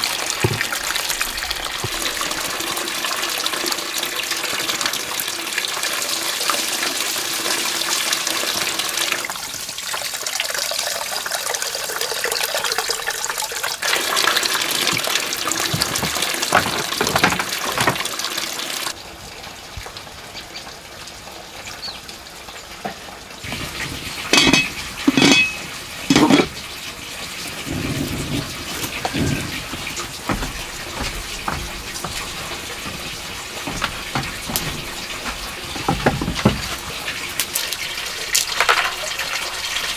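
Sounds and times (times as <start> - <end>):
rice being rinsed in a bowl: 0.0 - 19.0, 23.4 - 39.9.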